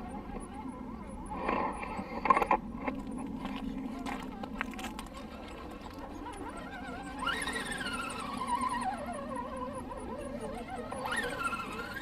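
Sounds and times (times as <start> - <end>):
small electric motor humming: 0.0 - 12.0.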